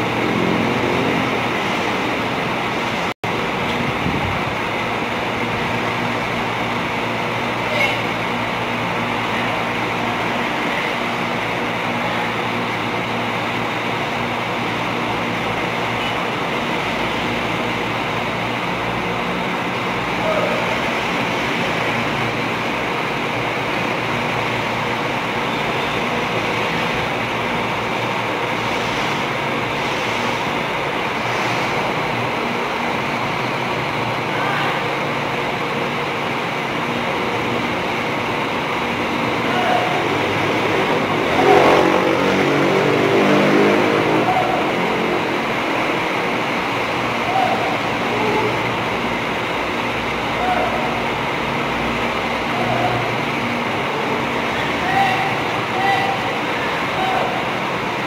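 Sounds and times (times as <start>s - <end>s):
diesel bus engine running: 0.0s - 58.0s
steady rushing noise: 0.0s - 58.0s.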